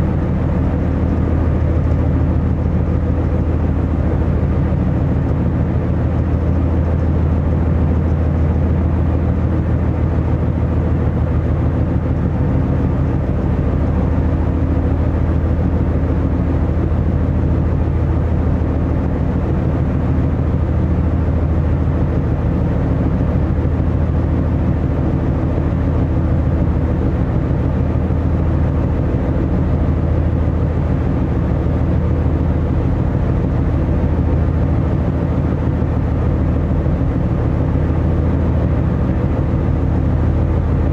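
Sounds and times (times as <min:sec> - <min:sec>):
constant rushing noise: 0:00.0 - 0:40.9
diesel engines droning: 0:00.0 - 0:40.9.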